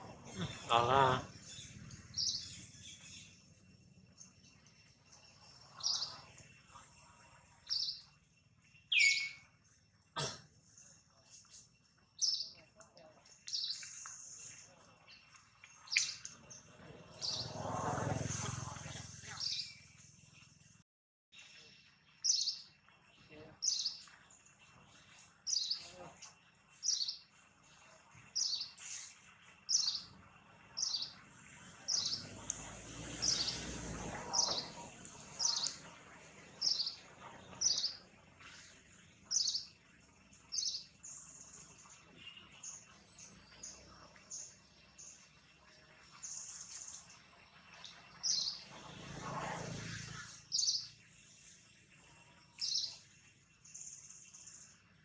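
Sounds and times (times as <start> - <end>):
bird chirping: 0.0 - 17.7, 19.3 - 20.8, 21.4 - 49.1, 49.9 - 55.0.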